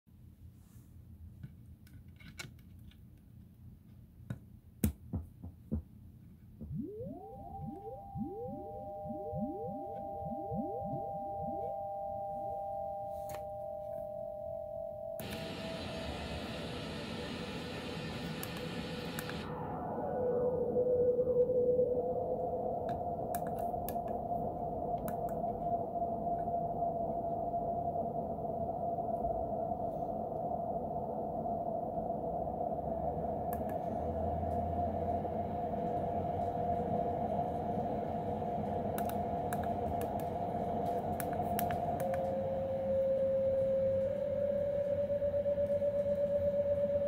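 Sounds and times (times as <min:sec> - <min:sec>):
synthesizer drone: 0:06.6 - 0:30.1, 0:30.7 - 0:47.0.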